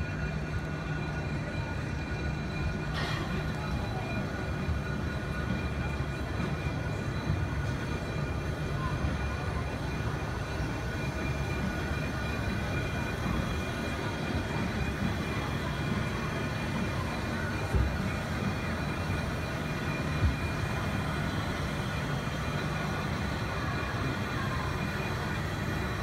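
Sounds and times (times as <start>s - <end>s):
locomotive low rumble: 0.0s - 26.0s
thin whining tones: 0.0s - 26.0s.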